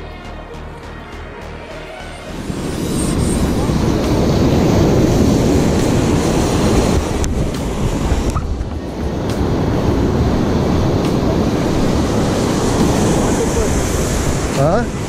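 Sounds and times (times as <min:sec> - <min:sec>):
surf washing up beach: 0:02.4 - 0:15.0
wind buffeting microphone: 0:02.4 - 0:15.0.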